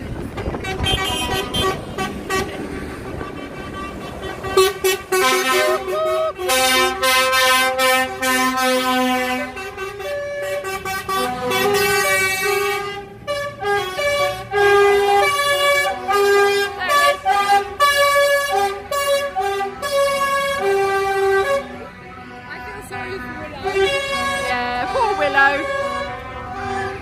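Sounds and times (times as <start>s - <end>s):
lorry engines rumbling: 0.0s - 27.0s
lorry air horns: 0.6s - 27.0s.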